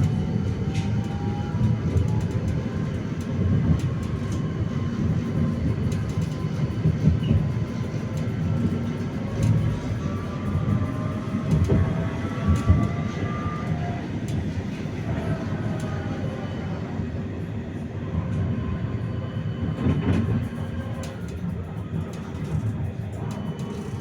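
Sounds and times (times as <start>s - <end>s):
tram wheels rumbling on rails: 0.0s - 24.0s.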